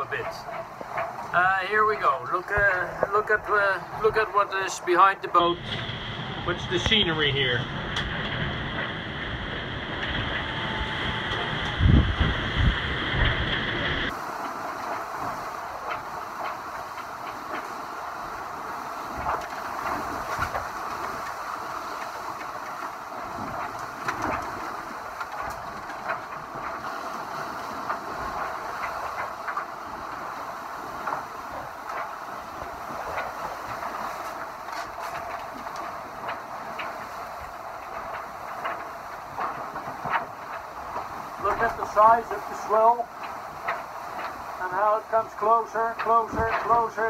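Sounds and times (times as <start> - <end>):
rush of wind and water: 0.0 - 47.0.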